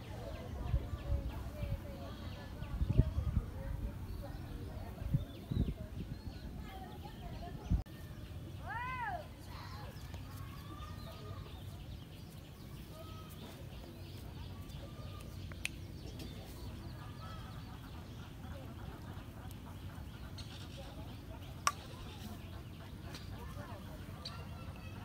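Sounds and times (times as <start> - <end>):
distant bird calls: 0.0 - 25.0.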